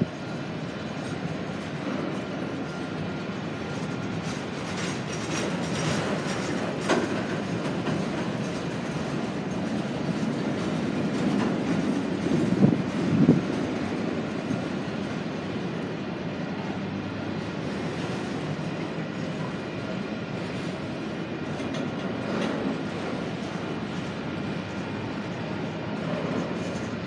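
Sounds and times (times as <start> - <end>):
train wheels rolling on rails: 0.0 - 27.0.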